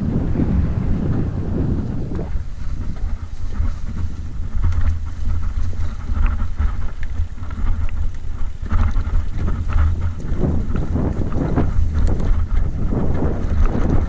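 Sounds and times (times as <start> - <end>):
bike rolling on dirt track: 0.0 - 14.0
wind buffeting microphone: 0.0 - 14.0
bike clicks and rattles: 1.0 - 14.0.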